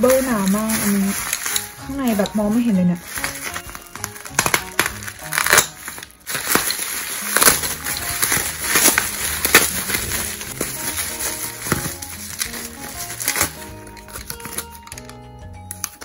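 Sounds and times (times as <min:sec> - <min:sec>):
bubble wrap crinkling and crackling: 0:00.0 - 0:16.0
soft background music: 0:00.0 - 0:16.0.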